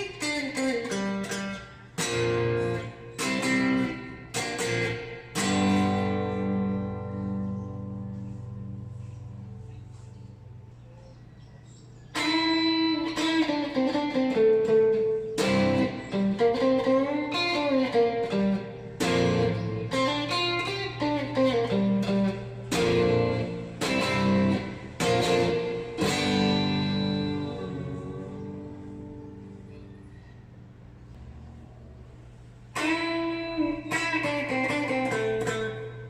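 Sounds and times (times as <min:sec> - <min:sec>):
electric guitar playing chords: 0:00.0 - 0:10.8, 0:12.1 - 0:36.0
faint low hum: 0:00.0 - 0:36.0.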